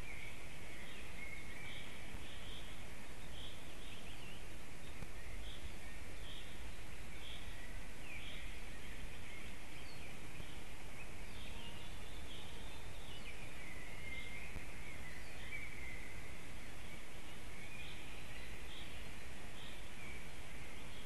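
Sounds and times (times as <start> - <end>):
low rumble of wind: 0.0 - 21.0
songbirds singing and chirping: 0.0 - 21.0.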